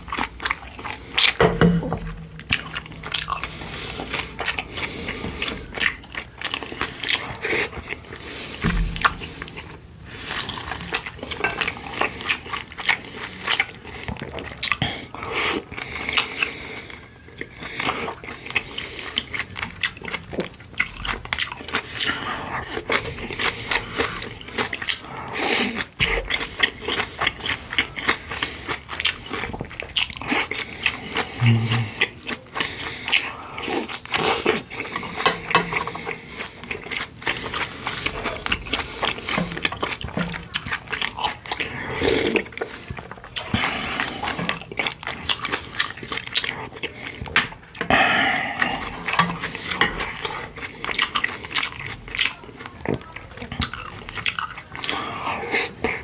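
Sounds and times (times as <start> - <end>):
chewing and biting food: 0.0 - 56.0.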